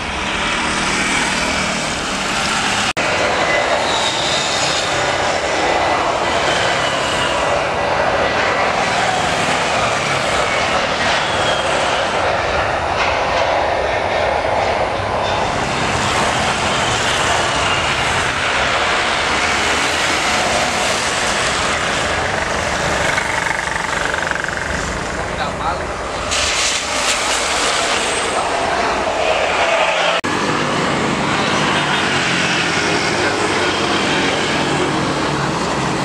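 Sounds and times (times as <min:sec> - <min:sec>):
jet engines at takeoff thrust: 0:00.0 - 0:36.0.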